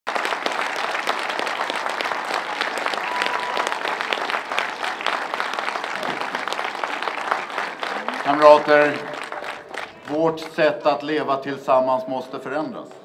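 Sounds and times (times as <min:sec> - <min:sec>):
crowd applauding: 0:00.1 - 0:11.2.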